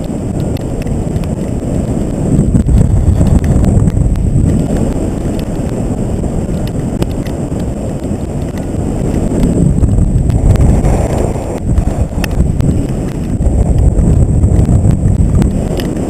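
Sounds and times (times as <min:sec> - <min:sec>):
faint ticks: 0:00.0 - 0:16.0
wind buffeting microphone: 0:00.0 - 0:16.0.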